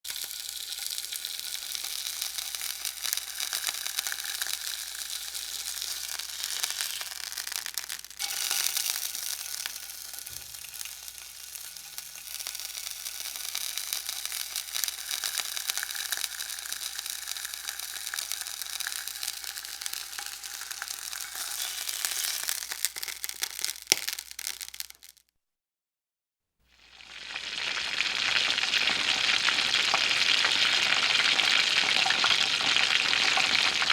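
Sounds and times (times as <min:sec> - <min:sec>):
food sizzling in a frying pan: 0:00.1 - 0:25.2, 0:26.7 - 0:33.9.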